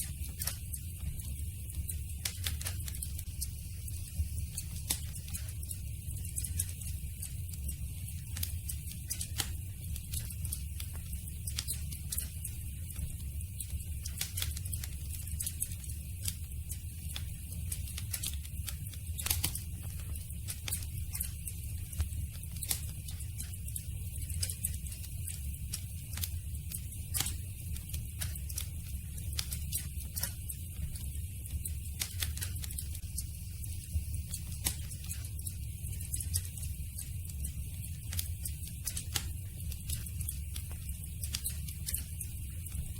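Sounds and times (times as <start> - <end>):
low rumble of fire: 0.0 - 42.9.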